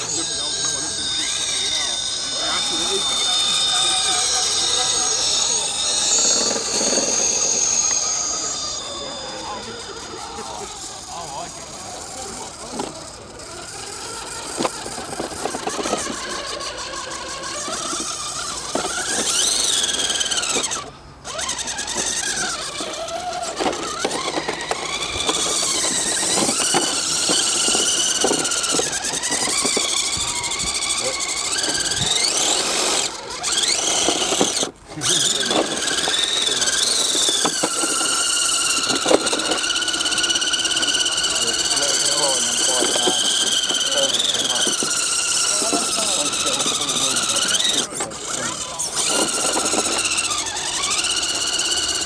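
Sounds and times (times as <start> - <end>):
small electric motors whining: 0.0 - 52.0.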